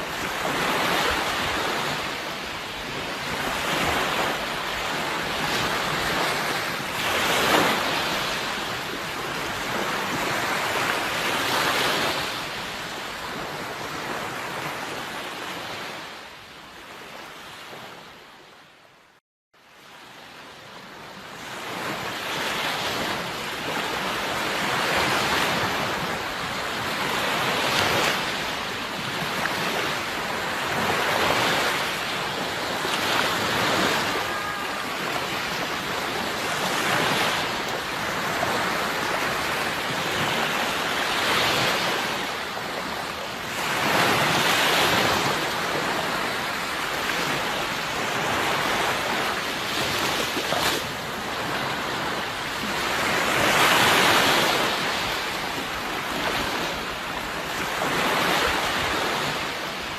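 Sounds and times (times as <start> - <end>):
sea waves washing ashore: 0.0 - 18.8, 19.6 - 59.9.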